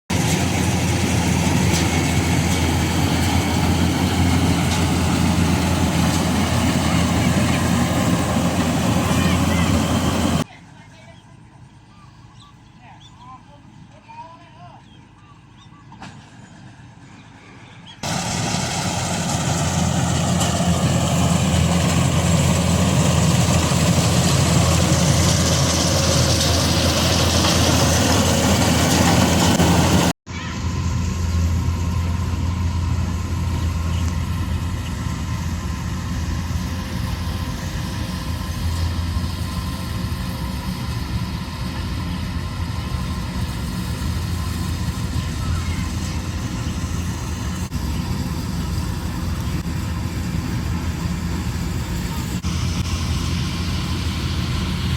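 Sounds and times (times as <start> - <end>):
combine harvester diesel engine: 0.1 - 12.1, 16.0 - 54.9.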